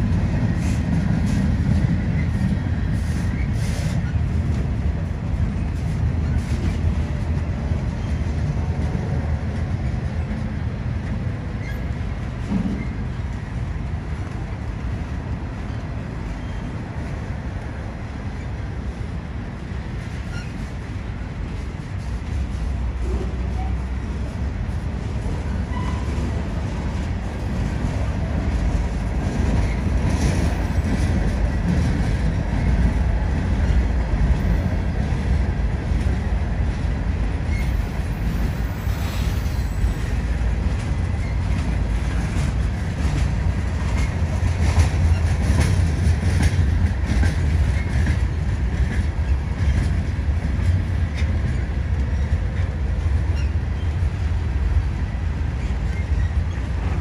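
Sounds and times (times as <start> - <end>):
train rumbling by: 0.0 - 57.0
wheels clacking on rails: 0.0 - 57.0.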